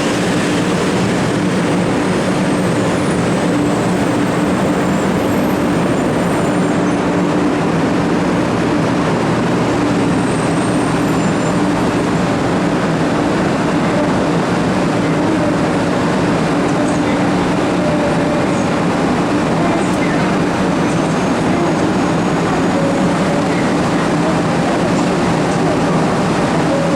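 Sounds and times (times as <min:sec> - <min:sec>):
train rushing noise with hum: 0:00.0 - 0:26.9.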